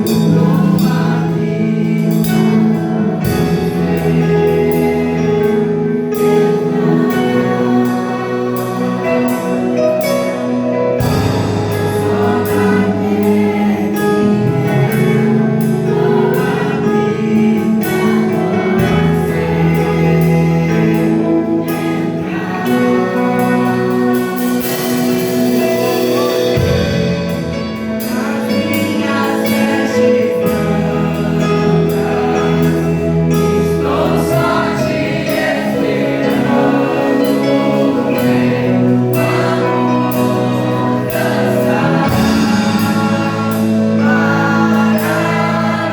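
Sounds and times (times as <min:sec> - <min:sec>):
gospel worship music: 0:00.0 - 0:45.9.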